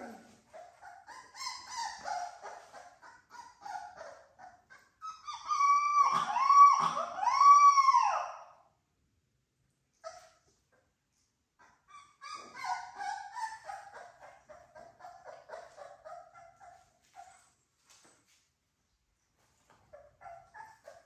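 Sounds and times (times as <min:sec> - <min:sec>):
puppies yipping and whining: 0:00.0 - 0:08.5, 0:10.0 - 0:10.8, 0:11.6 - 0:18.0, 0:19.6 - 0:21.0.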